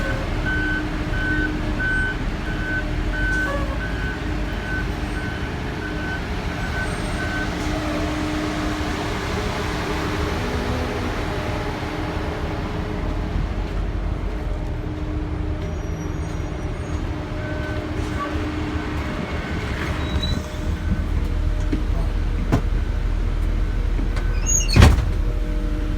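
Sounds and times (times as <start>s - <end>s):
bus engine running: 0.0s - 25.9s.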